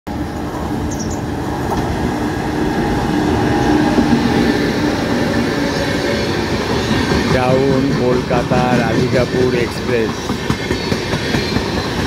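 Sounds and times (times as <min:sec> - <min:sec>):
train wheels rumbling on rails: 0:00.1 - 0:12.0.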